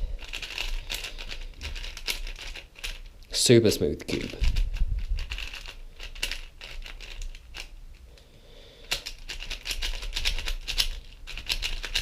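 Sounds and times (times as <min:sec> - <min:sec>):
speed cube turning clicks: 0:00.2 - 0:03.1, 0:04.2 - 0:07.7, 0:08.8 - 0:12.0.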